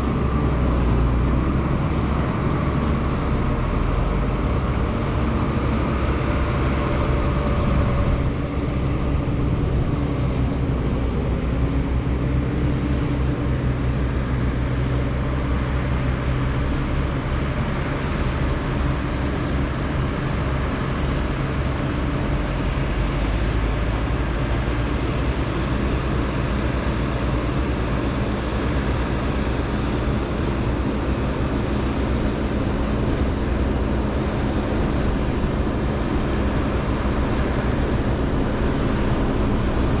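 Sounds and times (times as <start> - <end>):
diesel farm machinery running: 0.0 - 40.0.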